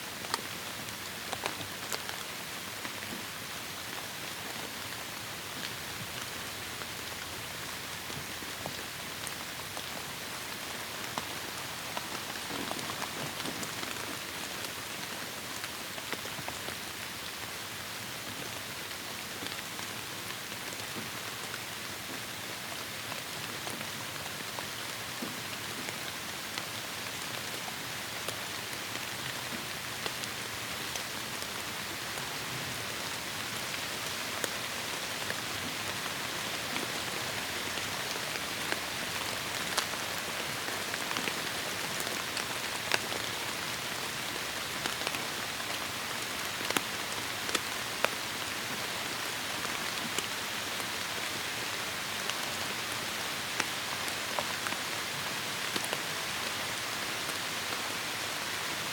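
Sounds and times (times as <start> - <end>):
heavy rain on foliage: 0.0 - 58.9.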